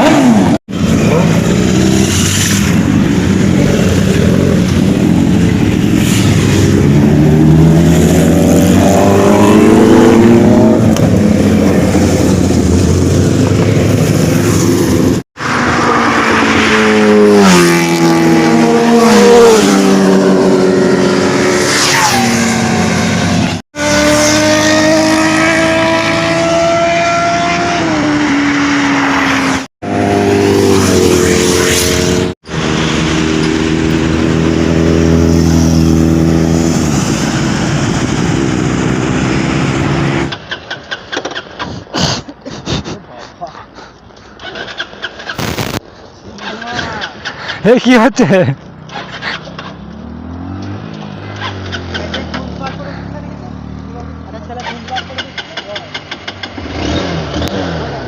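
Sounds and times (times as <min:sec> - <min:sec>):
superbike engines racing: 0:00.0 - 0:40.3, 0:46.2 - 0:58.0.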